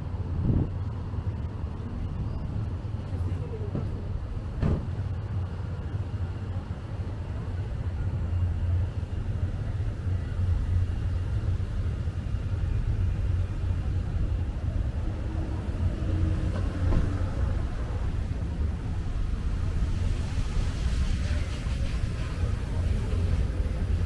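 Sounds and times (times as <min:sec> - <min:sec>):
faint outdoor background noise: 0:00.0 - 0:24.0
wind buffeting microphone: 0:00.0 - 0:24.0.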